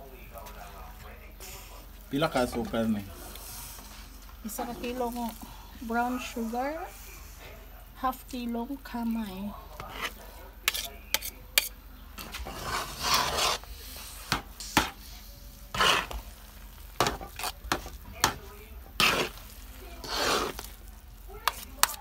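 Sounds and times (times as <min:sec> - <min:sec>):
faint sizzling: 0:00.0 - 0:22.0
utensil stirring and scraping pan: 0:01.4 - 0:07.6, 0:09.7 - 0:22.0.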